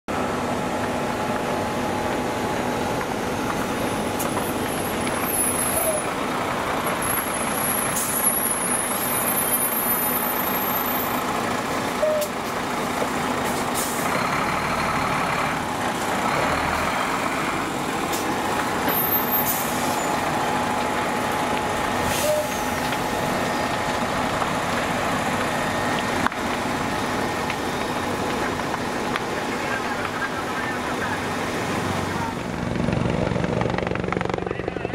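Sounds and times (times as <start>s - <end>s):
diesel truck engine running: 0.1s - 34.9s.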